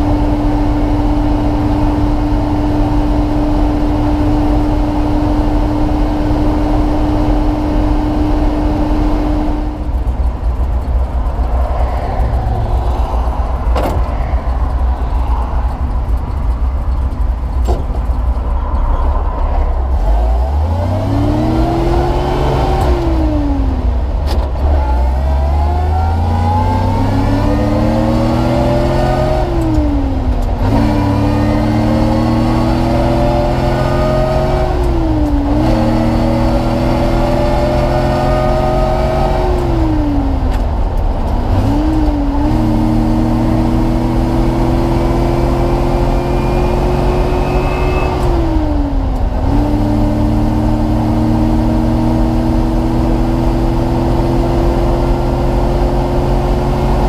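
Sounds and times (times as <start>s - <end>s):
truck engine accelerating and shifting: 0.0s - 57.0s.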